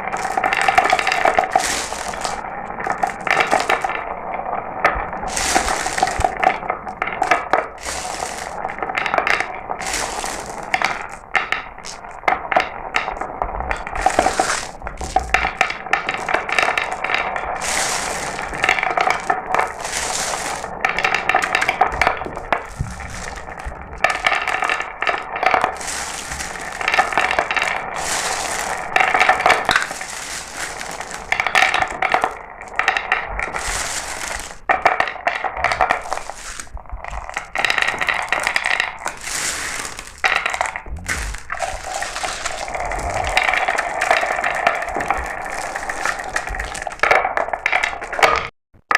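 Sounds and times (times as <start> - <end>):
glass marbles rolling and clacking: 0.0 - 48.9.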